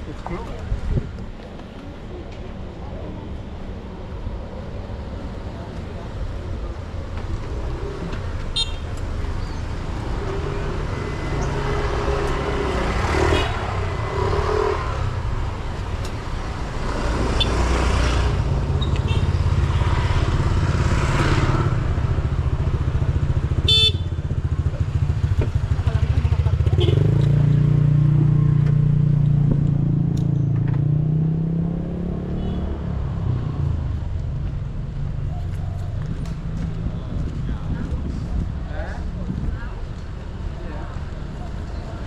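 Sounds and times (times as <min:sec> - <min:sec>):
motorbike engines passing: 0:00.0 - 0:42.0.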